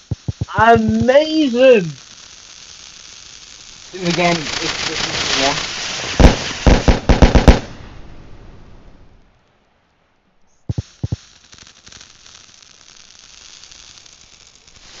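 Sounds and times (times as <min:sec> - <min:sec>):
fireworks banging: 0:00.0 - 0:08.4, 0:10.7 - 0:15.0
fireworks crackling hiss: 0:00.0 - 0:09.8, 0:10.5 - 0:15.0
faint steady hiss: 0:00.0 - 0:15.0.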